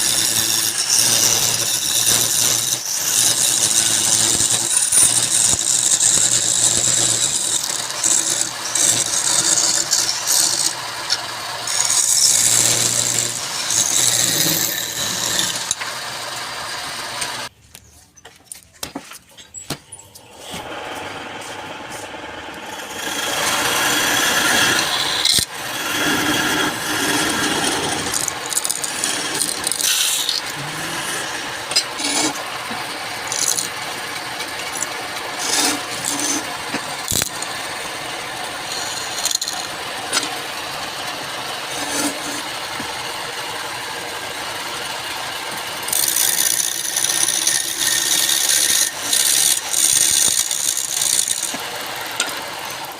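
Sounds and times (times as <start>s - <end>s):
turning tool cutting wood: 0.0s - 17.5s, 20.3s - 52.9s
wood lathe running: 0.0s - 17.5s, 20.4s - 52.9s.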